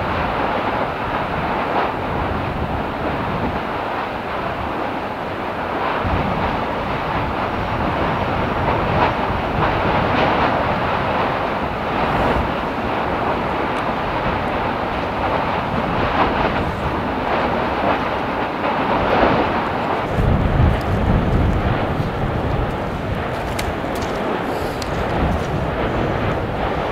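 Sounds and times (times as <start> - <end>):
lava spattering and crackling: 0.0 - 26.9.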